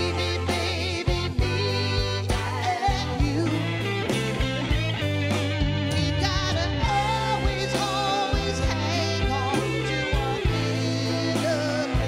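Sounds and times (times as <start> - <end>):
electric guitar: 0.0 - 12.0
low bass notes: 0.0 - 12.0.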